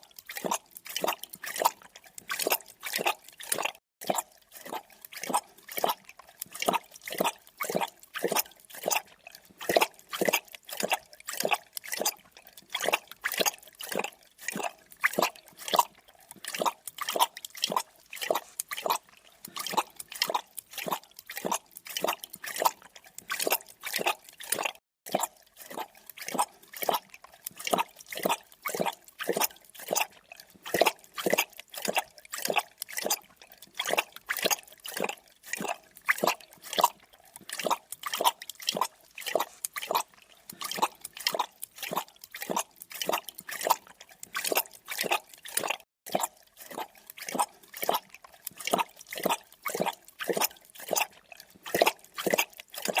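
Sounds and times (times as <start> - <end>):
animal lapping liquid: 0.0 - 53.0.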